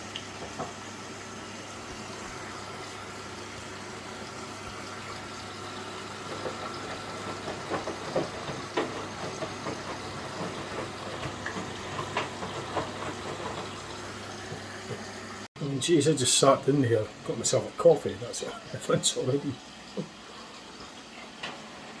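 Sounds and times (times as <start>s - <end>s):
washing machine drum humming: 0.0s - 22.0s.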